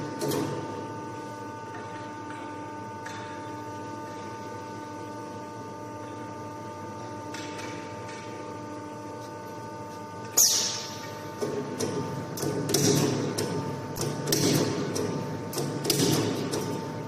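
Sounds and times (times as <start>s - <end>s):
machinery humming with whine: 0.0s - 17.0s.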